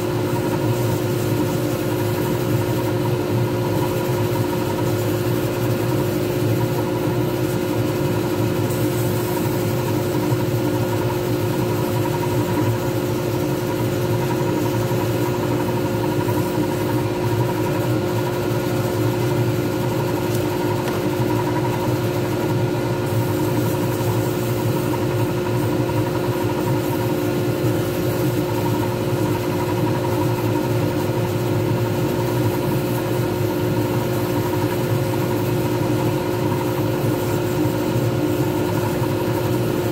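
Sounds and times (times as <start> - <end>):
lathe motor hum: 0.0 - 39.9.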